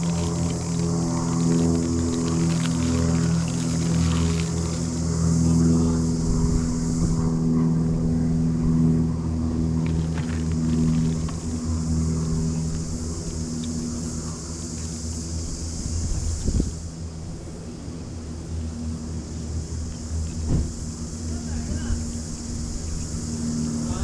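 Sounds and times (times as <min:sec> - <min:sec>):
steady hiss: 0:00.0 - 0:07.4, 0:09.7 - 0:24.0
large engine humming: 0:00.0 - 0:24.0.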